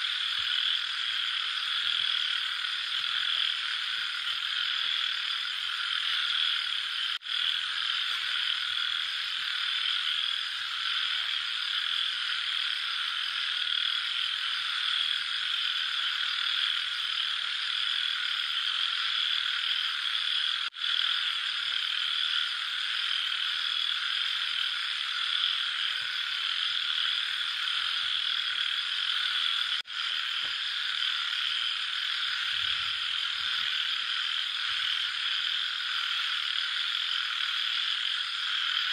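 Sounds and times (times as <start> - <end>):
frogs croaking: 0.0 - 38.9.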